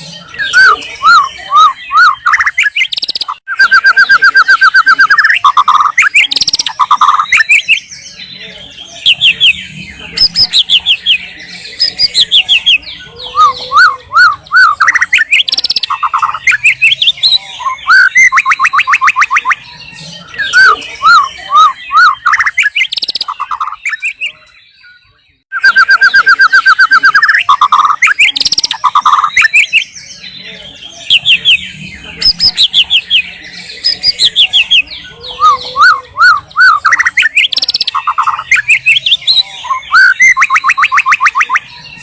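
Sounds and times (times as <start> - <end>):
bird singing whistles and trills: 0.0 - 42.0.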